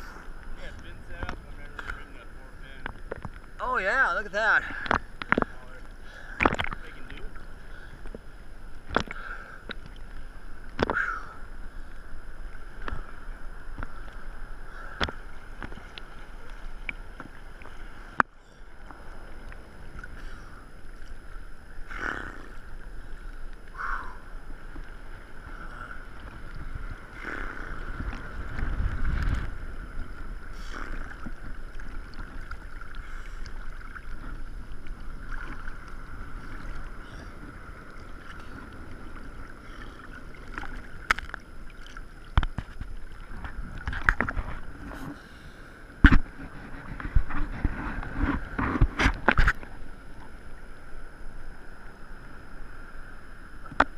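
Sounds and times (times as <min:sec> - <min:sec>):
water lapping and sloshing: 0:00.0 - 0:53.9.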